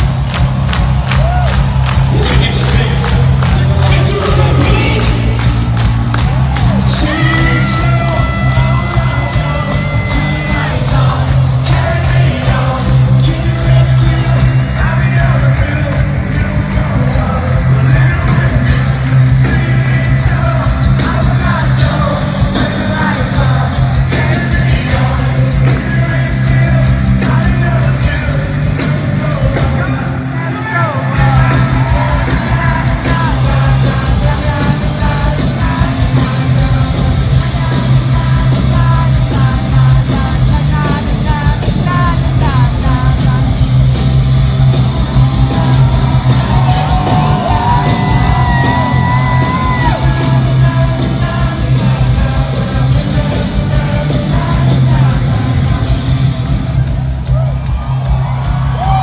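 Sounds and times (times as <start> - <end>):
rock band playing live: 0.0 - 59.0
sung vocals: 1.2 - 5.8, 6.5 - 57.4.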